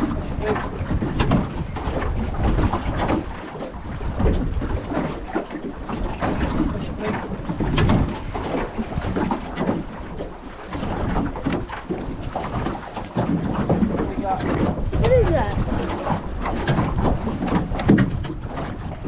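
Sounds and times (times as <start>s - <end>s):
water around boat hull: 0.0s - 19.0s
wind buffeting microphone: 0.0s - 19.0s.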